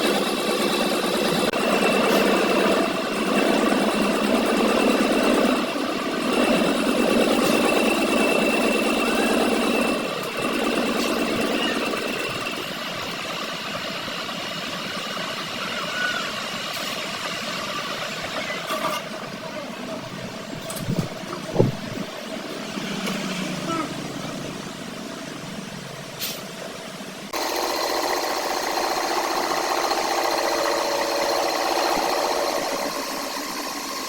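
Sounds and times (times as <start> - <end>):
machinery running with high whine: 0.0 - 34.0.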